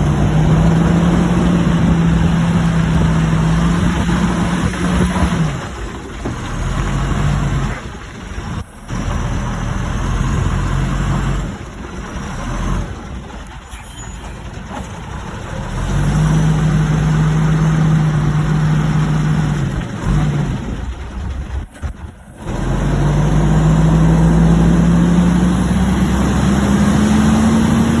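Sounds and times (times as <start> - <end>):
truck engine pulling under load: 0.0 - 28.0.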